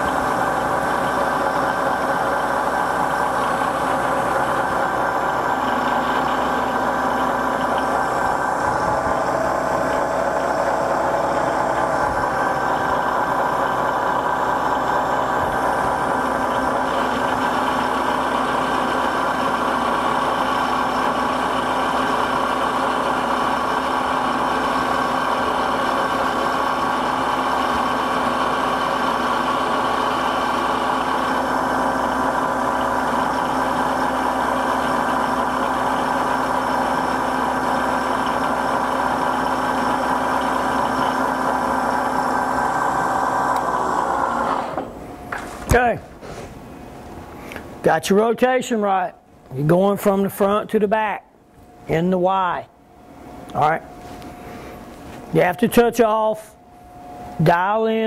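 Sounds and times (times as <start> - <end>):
milling machine hum and whine: 0.0 - 45.8, 51.2 - 58.0.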